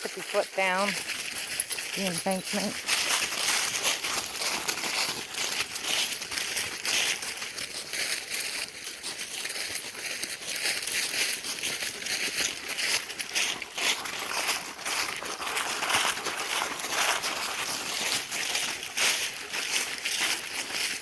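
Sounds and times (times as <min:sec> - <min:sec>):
footsteps crunching on forest floor: 0:00.0 - 0:21.0.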